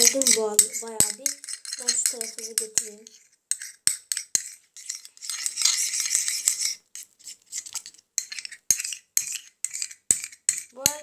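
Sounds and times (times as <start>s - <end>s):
spoon scraping and clicking in bowl: 0.0s - 11.0s.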